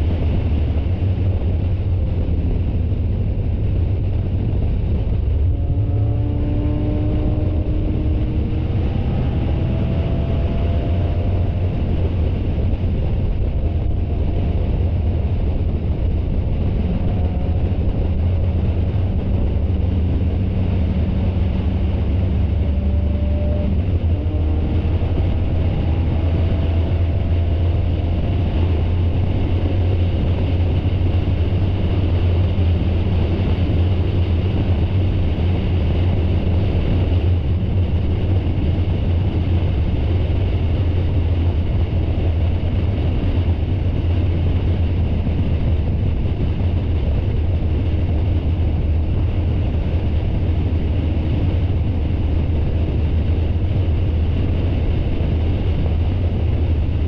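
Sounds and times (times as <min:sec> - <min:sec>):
race car engine at steady revs: 0:00.0 - 0:57.0
road noise: 0:00.0 - 0:57.0
wind noise: 0:00.0 - 0:57.0.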